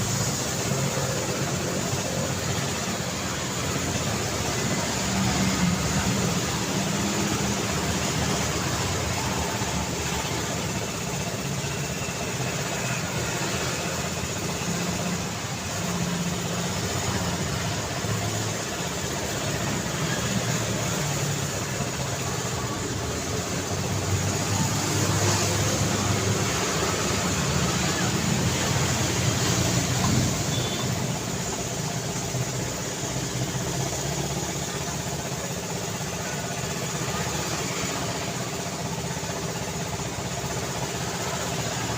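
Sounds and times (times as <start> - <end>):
street traffic passing: 0.0 - 41.9.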